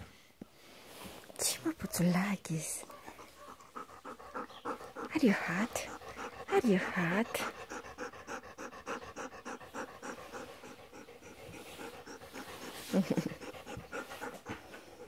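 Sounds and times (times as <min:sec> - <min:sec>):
dog panting: 0:01.7 - 0:15.0.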